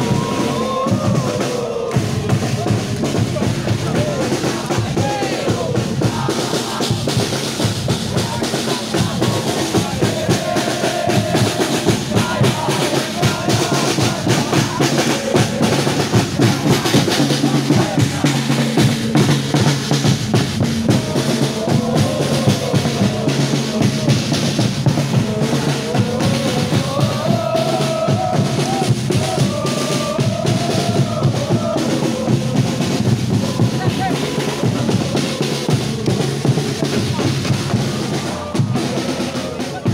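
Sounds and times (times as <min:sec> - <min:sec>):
crowd chanting: 0:00.0 - 0:39.9
drums beating marching rhythm: 0:00.0 - 0:39.9.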